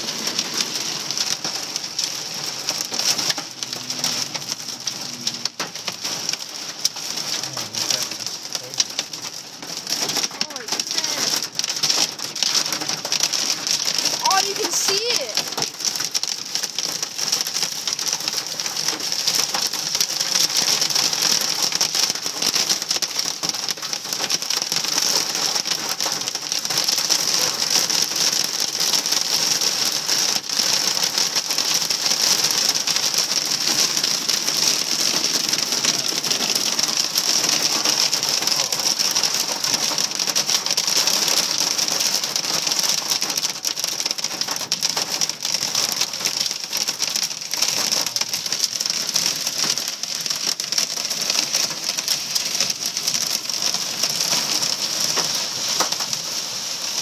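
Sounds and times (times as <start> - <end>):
hail hitting vehicle roof: 0.0 - 57.0.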